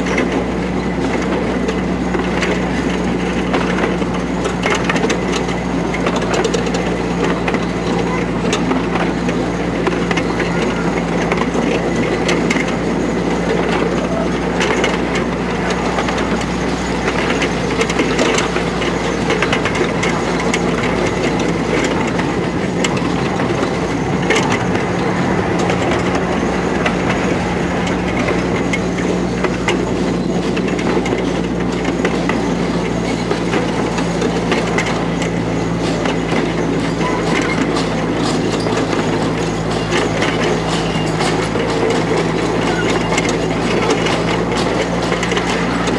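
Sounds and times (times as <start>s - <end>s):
clicks over rail joints: 0.0s - 45.9s
train wheels rumbling on track: 0.0s - 45.9s.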